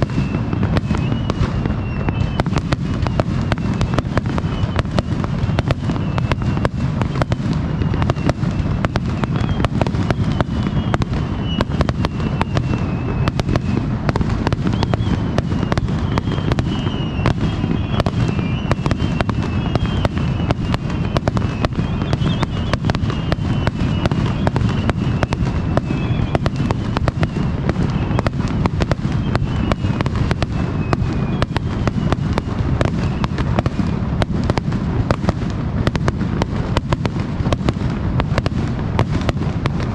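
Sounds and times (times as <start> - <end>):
faint high whistles: 0.0 - 33.5
fireworks booming and crackling: 0.0 - 39.9.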